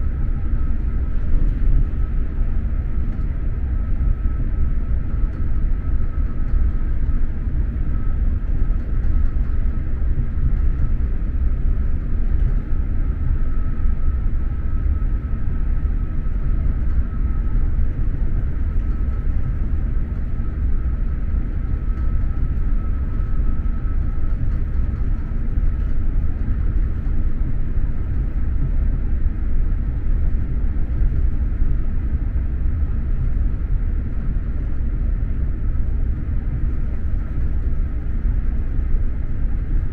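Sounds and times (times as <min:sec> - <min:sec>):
faint high whine: 0:00.0 - 0:39.9
train rumble inside coach: 0:00.0 - 0:39.9.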